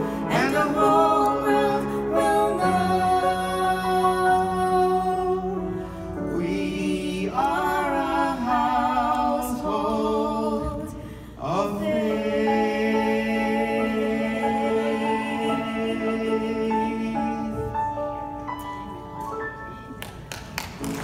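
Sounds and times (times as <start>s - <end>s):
woman and man singing duet: 0.1s - 17.7s.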